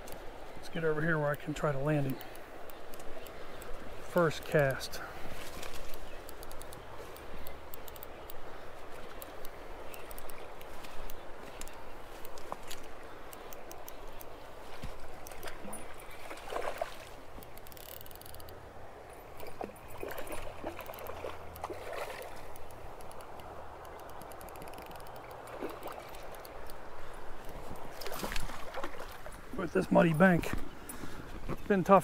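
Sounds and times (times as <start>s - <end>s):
river water splashing and gurgling: 0.0s - 32.0s.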